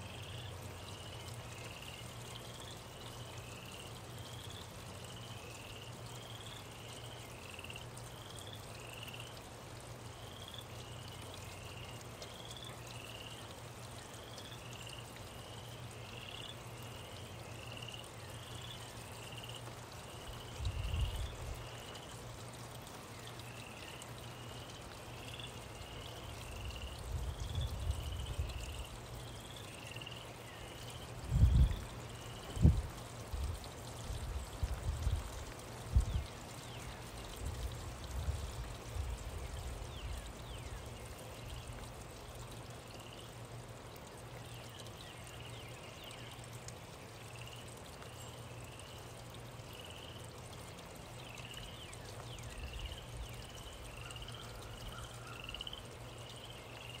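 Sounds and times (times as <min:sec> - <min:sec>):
rain hiss: 0:00.0 - 0:57.0.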